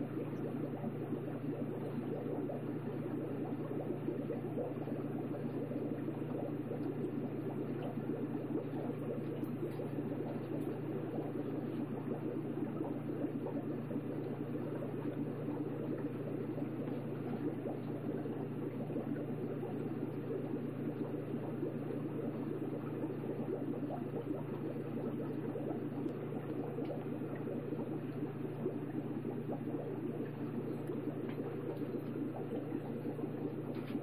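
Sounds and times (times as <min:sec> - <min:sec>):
aquarium water bubbling: 0:00.0 - 0:34.0
low even hum: 0:00.0 - 0:34.0.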